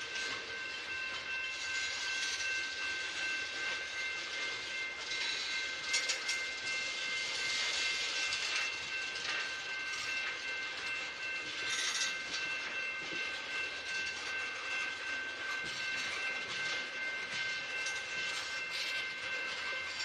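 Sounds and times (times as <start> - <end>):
high-pitched ringing tone: 0.0 - 20.0
train wheels rumbling on rail: 0.0 - 20.0.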